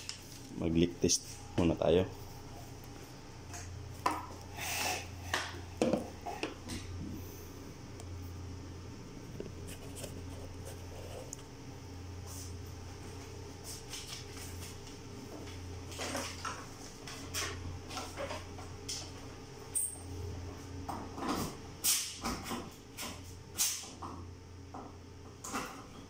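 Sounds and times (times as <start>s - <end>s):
steady low hum: 0.0s - 21.8s.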